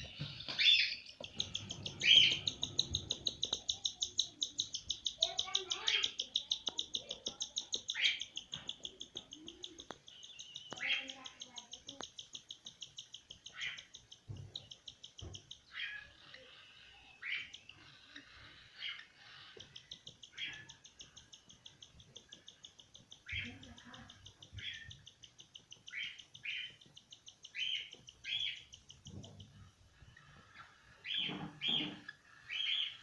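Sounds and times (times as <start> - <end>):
cockatiel chicks begging calls: 0.1 - 12.1, 13.4 - 33.0.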